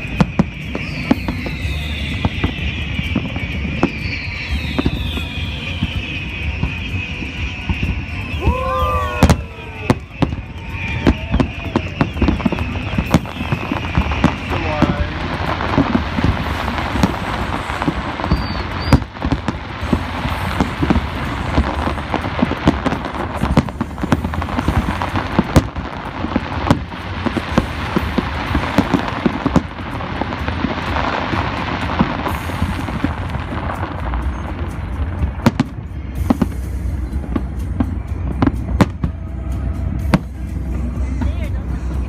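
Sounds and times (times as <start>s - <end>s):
sharp firework bangs: 0.0s - 39.3s
fireworks booming and crackling: 0.0s - 42.0s
steady rumble: 0.0s - 42.0s.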